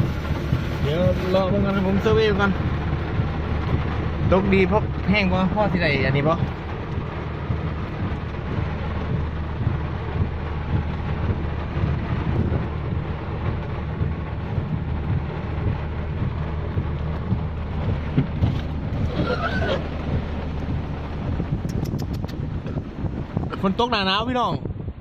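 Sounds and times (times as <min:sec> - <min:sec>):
heavy rain hiss: 0:00.0 - 0:24.6
wind buffeting microphone: 0:00.0 - 0:25.0.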